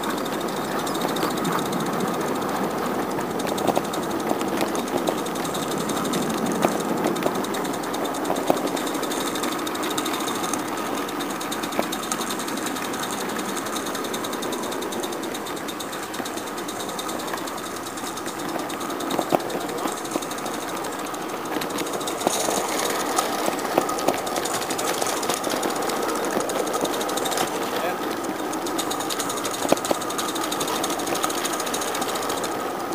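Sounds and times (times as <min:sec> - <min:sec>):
sharp clicks: 0:00.0 - 0:32.9
steam locomotive exhaust chuffing: 0:00.0 - 0:32.9.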